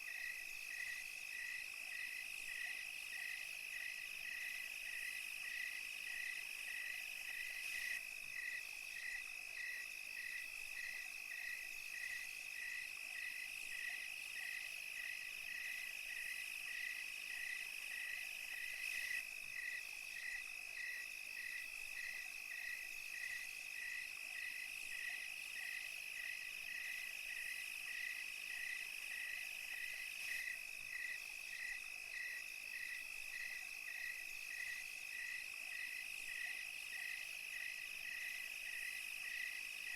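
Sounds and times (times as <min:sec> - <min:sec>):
cricket chirping: 0:00.0 - 0:39.9
crickets and cicadas trilling: 0:00.0 - 0:39.9.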